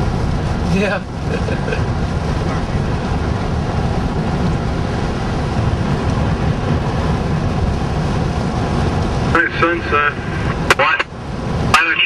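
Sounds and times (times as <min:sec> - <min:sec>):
road and engine noise in van: 0:00.0 - 0:12.0.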